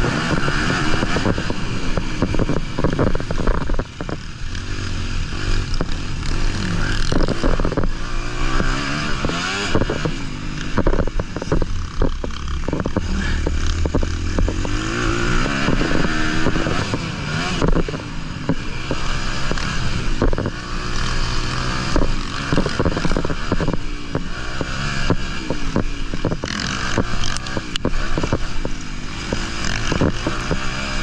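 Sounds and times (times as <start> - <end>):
motocross bike engine revving: 0.0 - 31.0.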